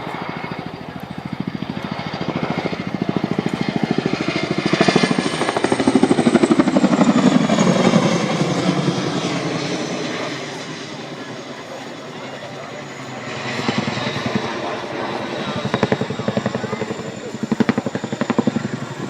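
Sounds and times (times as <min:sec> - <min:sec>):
helicopter rotors thudding past: 0:00.0 - 0:19.0.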